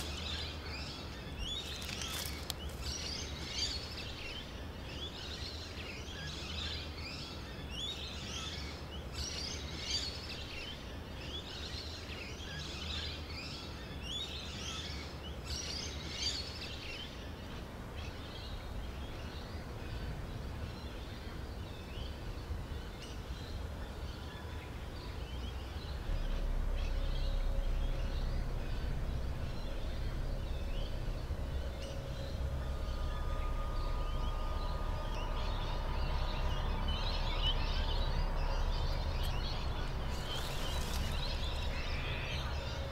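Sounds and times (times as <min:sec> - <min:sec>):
birds chirping: 0:00.0 - 0:42.9
faint steady tones: 0:00.0 - 0:42.9
low steady rumble: 0:00.0 - 0:42.9.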